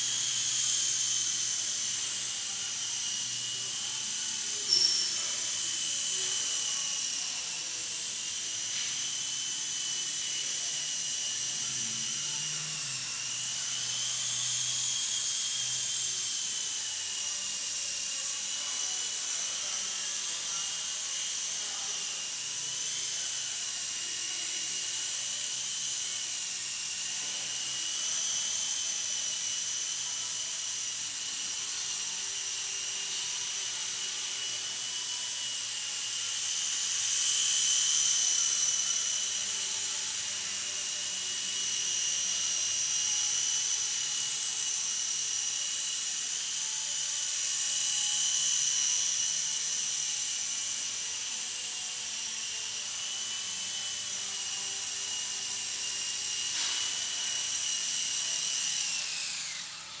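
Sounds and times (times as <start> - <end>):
toy helicopter motors whining: 0.0 - 60.0.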